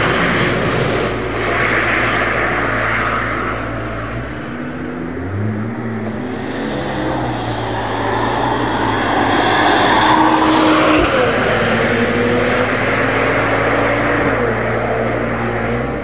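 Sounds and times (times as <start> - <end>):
car engine at low revs passing: 0.0 - 16.0.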